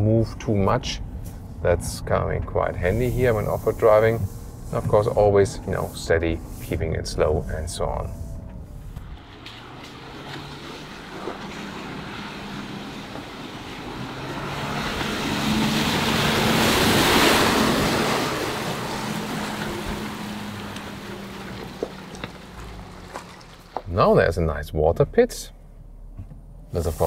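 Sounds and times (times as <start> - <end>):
wind and tyre noise: 0.0 - 25.2
low engine note: 0.8 - 27.0.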